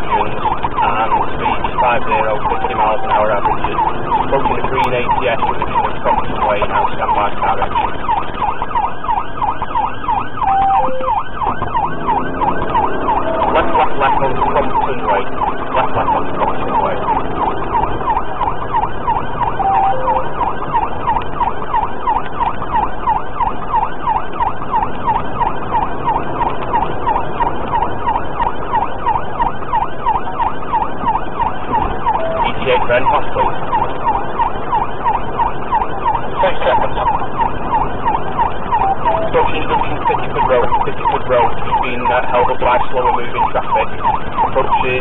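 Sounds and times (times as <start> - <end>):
car engine and road noise: 0.0 - 45.0
police siren yelping: 0.0 - 45.0.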